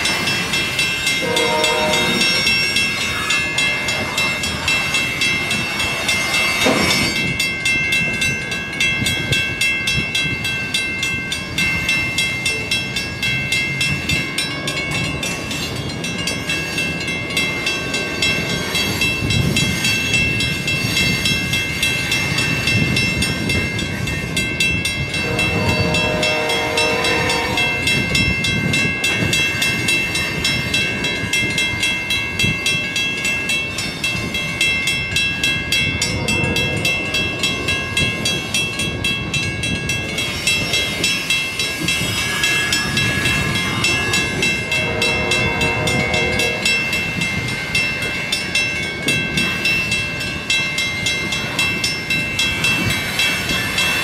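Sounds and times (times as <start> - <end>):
crossing warning bell ringing: 0.0 - 54.0
train wheels clacking over rails: 0.0 - 54.0.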